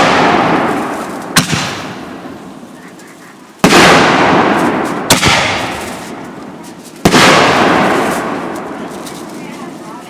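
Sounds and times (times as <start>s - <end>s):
firework shells bursting: 0.0s - 9.7s.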